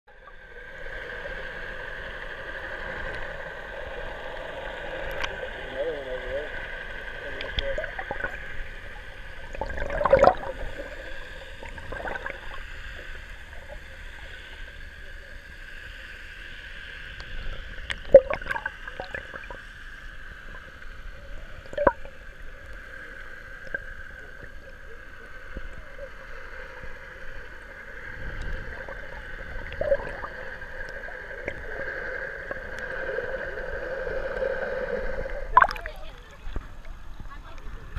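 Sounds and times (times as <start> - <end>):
muffled underwater water murmur: 0.1 - 37.9.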